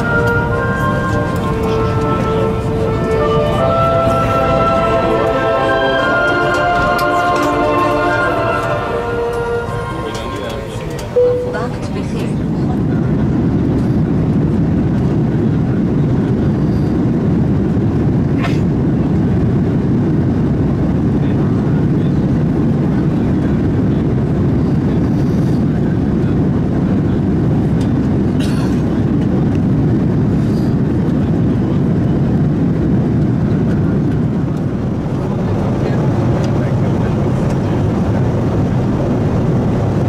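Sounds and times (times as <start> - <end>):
airplane cabin roar: 0.0 - 40.0.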